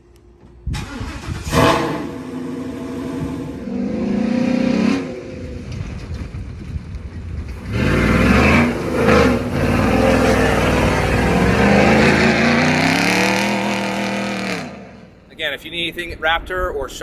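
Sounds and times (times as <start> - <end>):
truck exhaust accelerating hard: 0.6 - 15.3.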